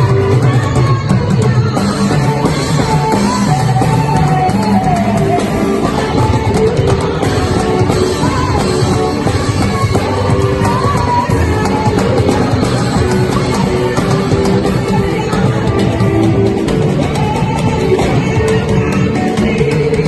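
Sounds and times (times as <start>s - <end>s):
band with heavy bass and drums: 0.0s - 20.0s
person singing: 0.0s - 20.0s.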